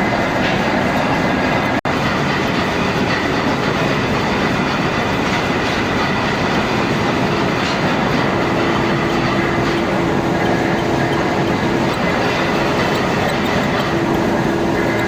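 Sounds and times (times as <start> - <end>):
machine tool cutting metal: 0.0 - 15.0.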